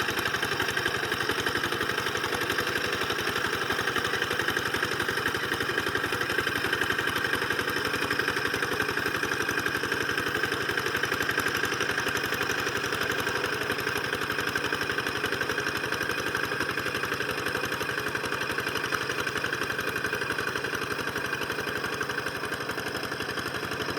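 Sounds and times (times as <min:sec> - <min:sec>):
hand tractor engine running: 0:00.0 - 0:23.9.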